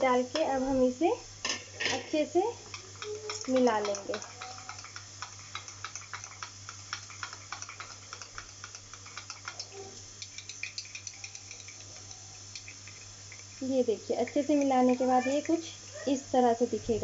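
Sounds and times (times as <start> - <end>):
spoon scraping and tapping bowl: 1.5 - 15.7.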